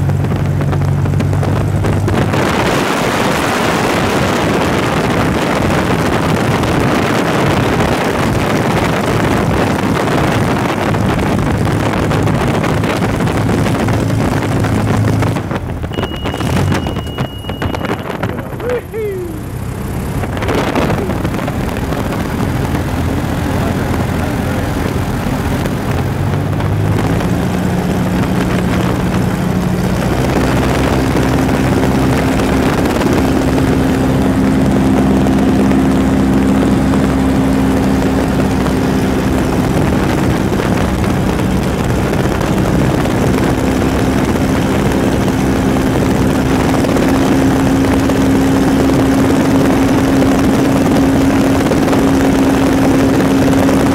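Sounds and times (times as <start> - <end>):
airplane engine and propeller: 0.0 - 53.9
wind rushing over microphone: 0.0 - 53.9.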